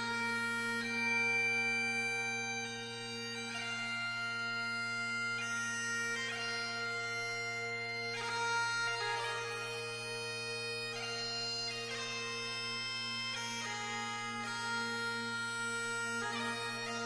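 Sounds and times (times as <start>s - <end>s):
bagpipes playing: 0.0s - 17.0s.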